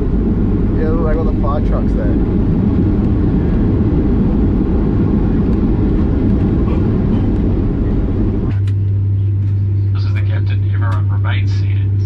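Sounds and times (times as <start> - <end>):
aircraft rumbling along runway: 0.0 - 12.0.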